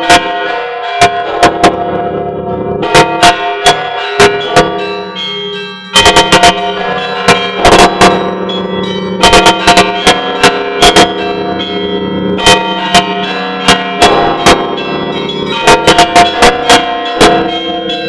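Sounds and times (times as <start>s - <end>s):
large bells ringing: 0.0s - 18.0s
small church bells striking: 0.0s - 18.0s.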